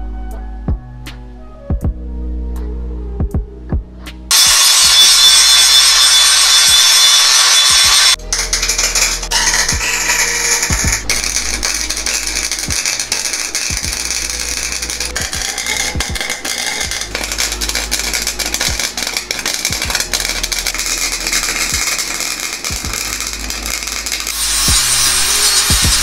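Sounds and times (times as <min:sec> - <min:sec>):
welder arc crackling: 0:04.3 - 0:26.0.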